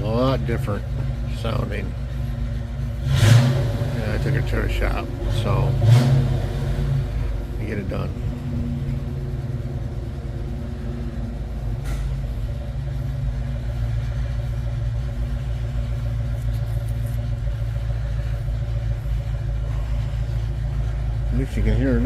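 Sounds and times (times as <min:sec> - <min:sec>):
car engine exhaust rumble: 0:00.0 - 0:22.0.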